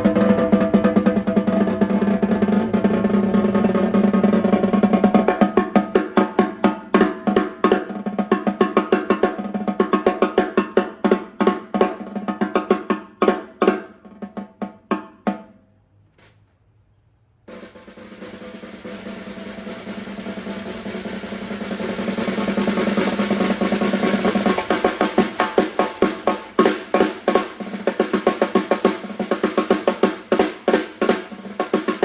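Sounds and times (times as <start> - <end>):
snare drum roll: 0.0 - 15.5, 17.5 - 32.0.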